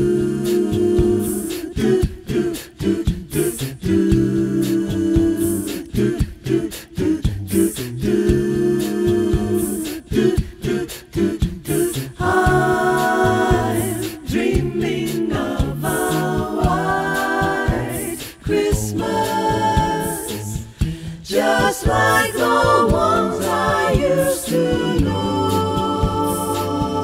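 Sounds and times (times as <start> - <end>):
group singing a cappella in harmony: 0.0 - 27.0.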